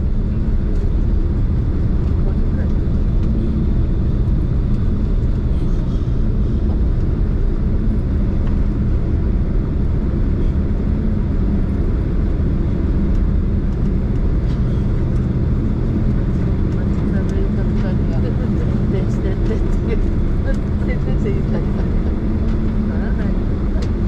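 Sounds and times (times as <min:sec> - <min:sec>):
airliner engines rumbling: 0:00.0 - 0:24.0.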